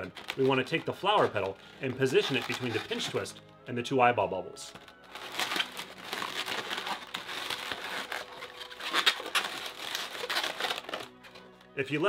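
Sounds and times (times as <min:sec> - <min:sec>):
balloons squeaking and rubbing: 0:00.0 - 0:03.4, 0:04.7 - 0:11.4.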